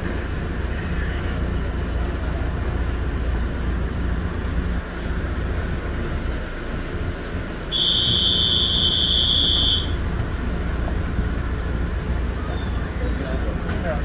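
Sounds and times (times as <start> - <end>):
train rolling with low rumble: 0.0 - 14.0.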